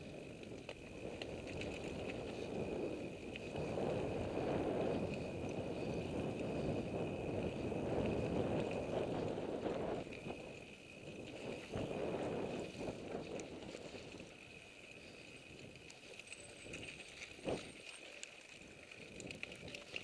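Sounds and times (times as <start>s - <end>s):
bike rattles and clicks: 0.0s - 20.0s
bike tyres rushing on dirt: 0.0s - 20.0s.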